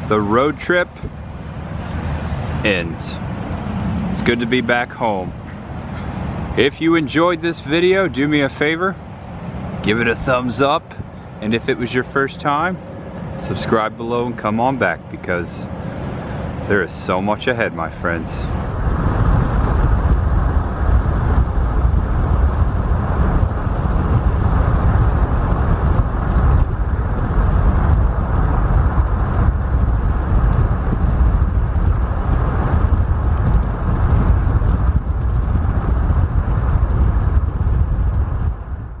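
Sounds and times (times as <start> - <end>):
car road and wind noise: 0.0 - 39.0.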